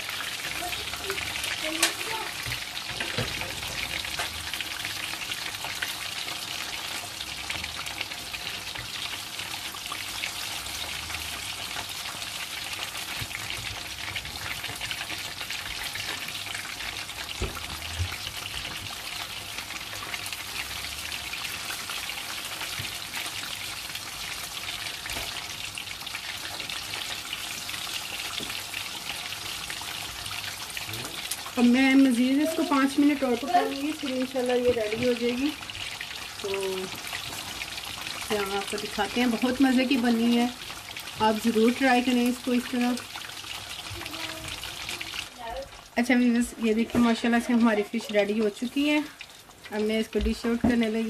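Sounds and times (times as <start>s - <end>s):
fish deep-frying in oil: 0.0s - 51.0s.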